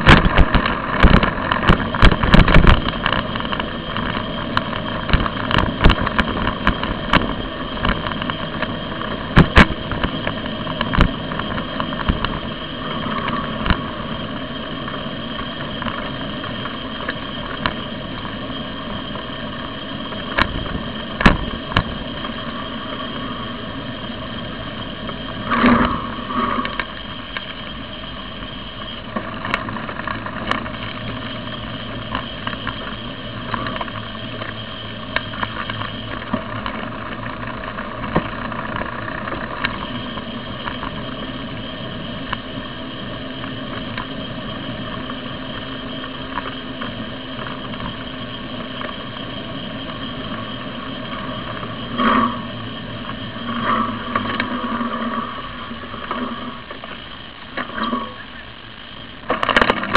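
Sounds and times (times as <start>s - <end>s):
bicycle tyre road hum: 0.0s - 59.9s.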